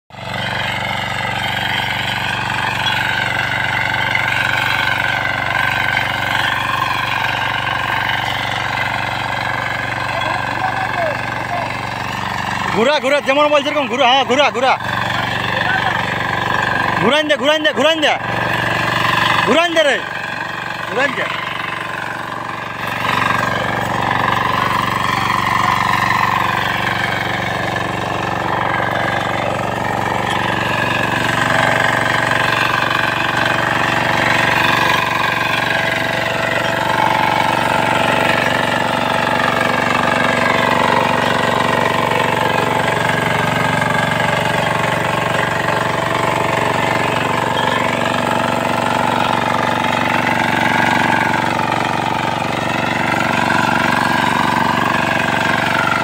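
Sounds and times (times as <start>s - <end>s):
power tiller engine running: 0.1s - 56.0s
tines churning soil: 0.1s - 56.0s.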